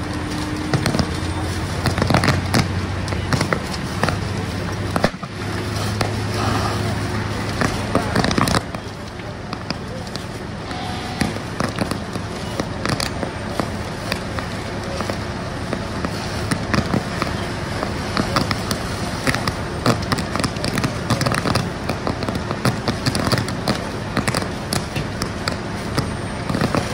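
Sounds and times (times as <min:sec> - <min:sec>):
fire rushing noise: 0:00.0 - 0:26.9
house fire crackling: 0:00.0 - 0:26.9
power line arcing and sparking: 0:00.0 - 0:26.9.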